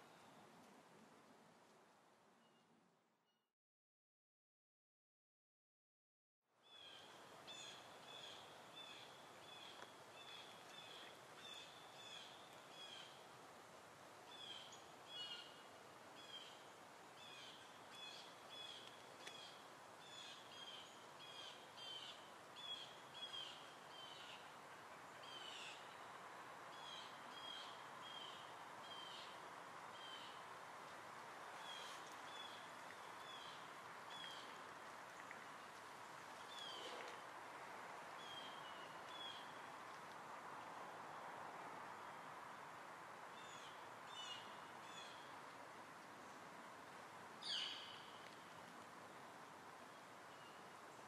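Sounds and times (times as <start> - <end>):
faint outdoor hiss: 0.0 - 3.5, 6.5 - 51.0.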